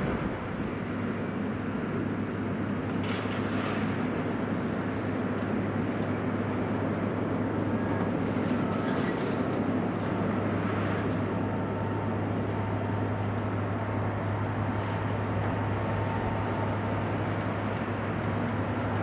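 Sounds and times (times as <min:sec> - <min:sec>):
diesel locomotive low drone: 0:00.0 - 0:19.0.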